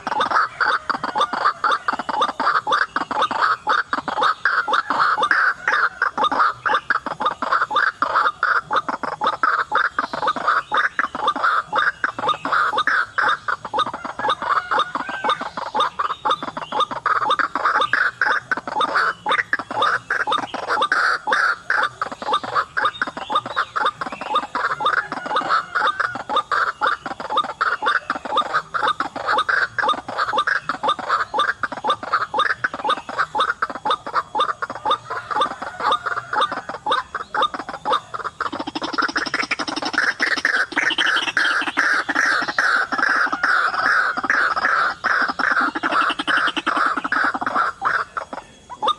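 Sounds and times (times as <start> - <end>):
bird harsh repeated calls: 0.0 - 48.9.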